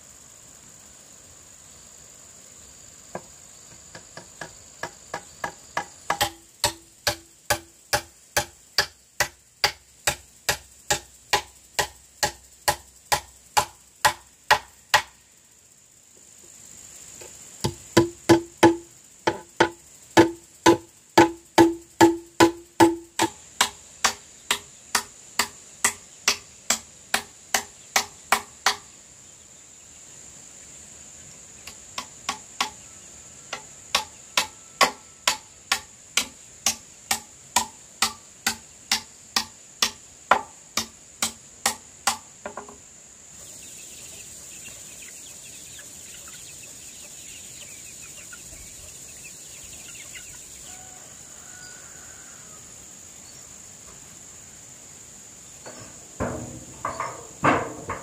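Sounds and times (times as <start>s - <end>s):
high insect whine: 0.0s - 58.0s.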